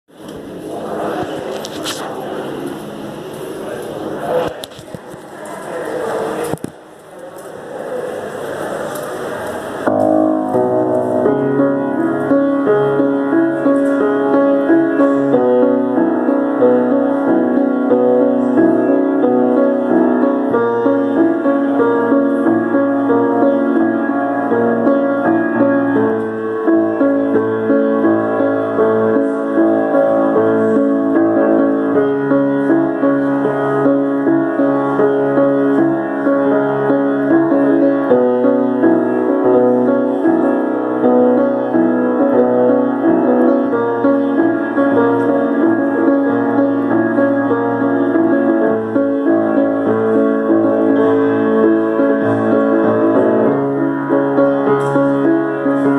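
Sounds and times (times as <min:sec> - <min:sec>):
solo piano chords: 0:07.6 - 0:55.9.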